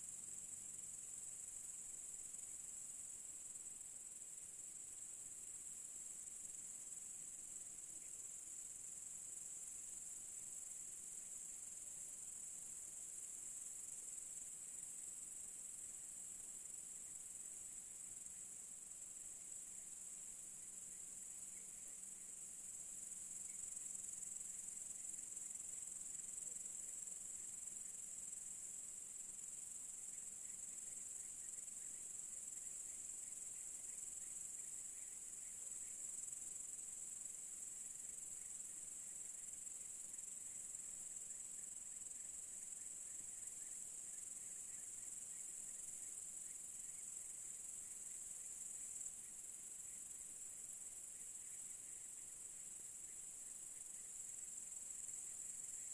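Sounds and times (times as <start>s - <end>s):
crickets chorus: 0.0s - 55.9s.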